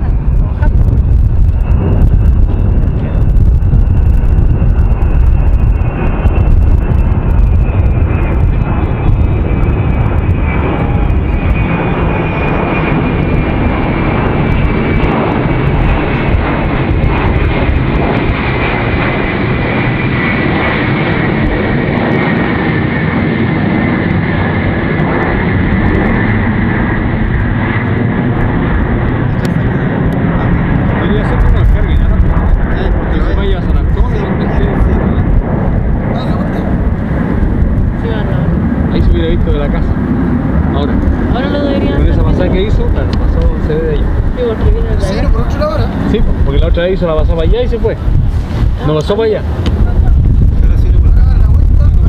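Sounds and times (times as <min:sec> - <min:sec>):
jet flying overhead: 0:00.0 - 0:52.0.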